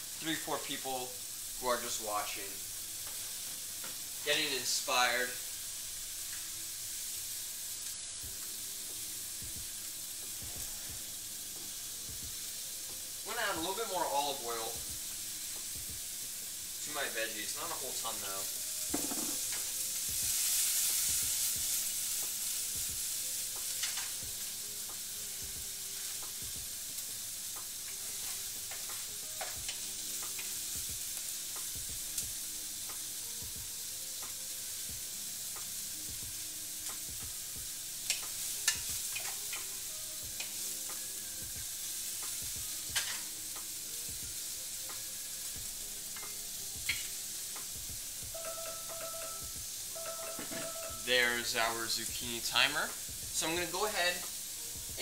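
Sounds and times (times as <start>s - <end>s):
vegetables sizzling in oil: 0.0s - 55.0s.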